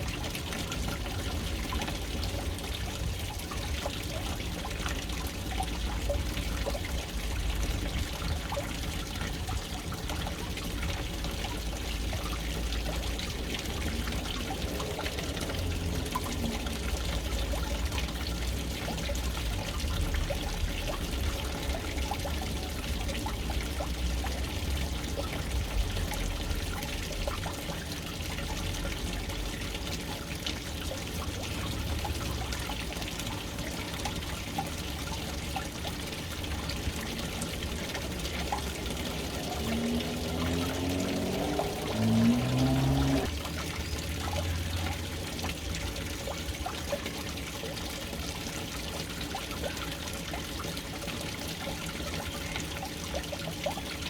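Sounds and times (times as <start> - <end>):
water pouring into a tank: 0.0 - 54.0.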